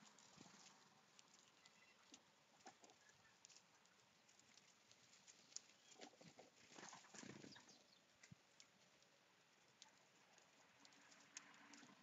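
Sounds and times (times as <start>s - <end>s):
small ticks and rustles: 0.0s - 12.0s.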